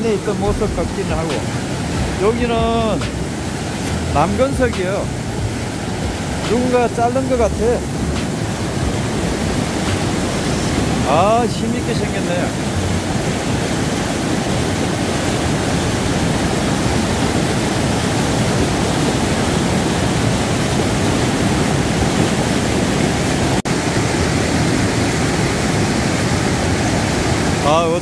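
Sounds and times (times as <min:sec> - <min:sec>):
mountain stream rushing over boulders: 0:00.0 - 0:28.0.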